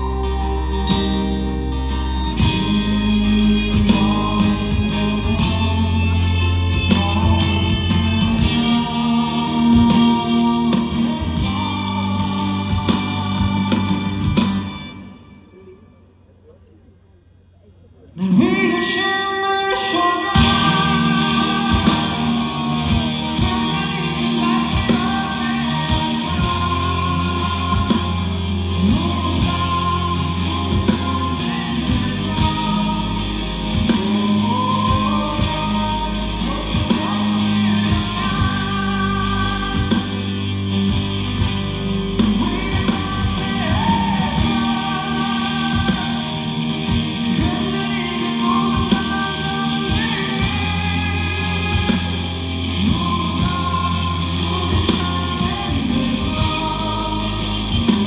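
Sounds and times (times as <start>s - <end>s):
steady drum beat: 0.0s - 14.9s, 20.3s - 58.0s
bass notes: 0.0s - 15.1s, 20.3s - 58.0s
lead guitar lines: 0.0s - 16.0s, 19.6s - 58.0s.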